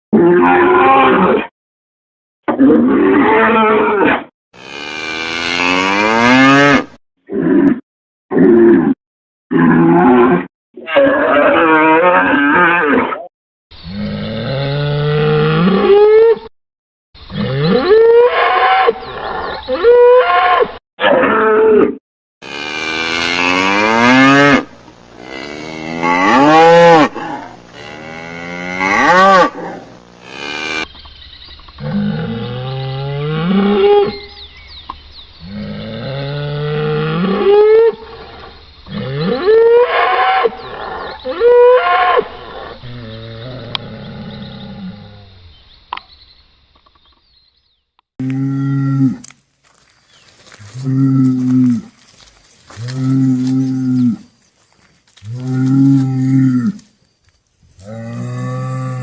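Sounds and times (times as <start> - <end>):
cattle mooing and bellowing: 2.6 - 7.7, 8.3 - 13.2, 13.9 - 16.5, 17.3 - 30.9, 31.8 - 34.3, 35.5 - 45.3, 48.2 - 49.8, 50.4 - 56.9, 57.7 - 59.0.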